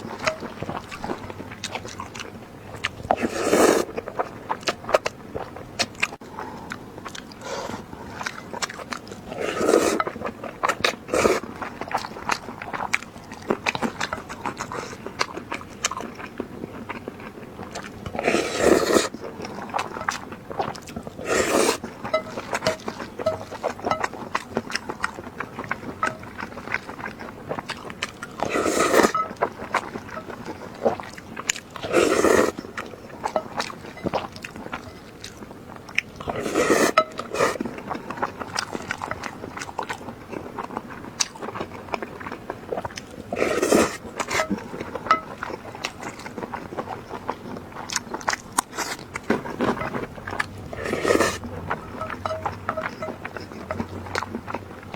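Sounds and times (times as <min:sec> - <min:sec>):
chewing with wet mouth clicks: 0:00.0 - 0:54.9
loud chewing bursts: 0:00.0 - 0:54.9.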